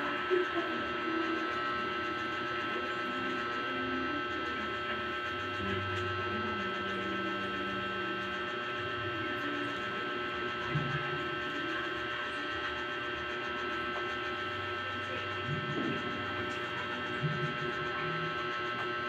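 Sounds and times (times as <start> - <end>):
steady hum with held tones: 0.0 - 19.0.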